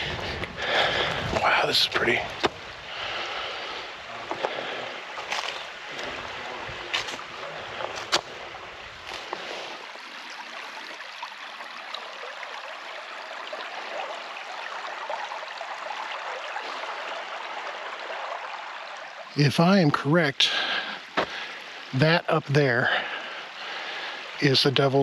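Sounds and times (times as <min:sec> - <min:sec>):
creek flowing over rocks: 0:00.0 - 0:25.0.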